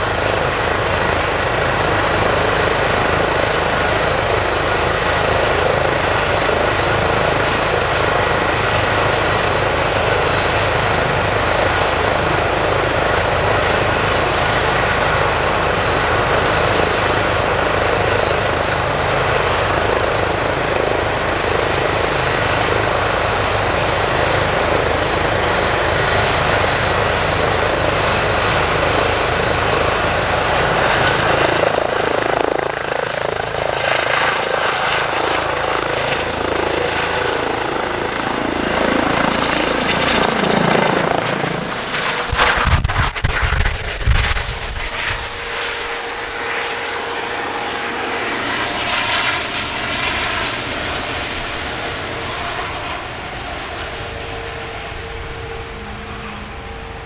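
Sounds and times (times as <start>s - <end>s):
helicopter turbines and rotor: 0.0s - 57.0s.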